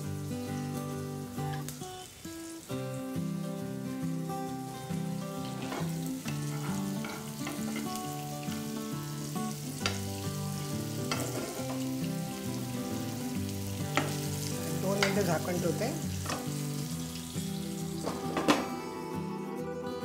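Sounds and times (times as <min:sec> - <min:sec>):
food sizzling in hot oil: 0:00.0 - 0:20.0
soft melody: 0:00.0 - 0:20.0.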